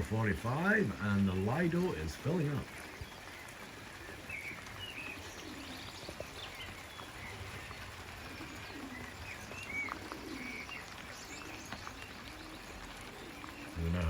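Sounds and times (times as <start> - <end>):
bird chirps: 0.0 - 14.0
pigeons cooing: 0.0 - 14.0.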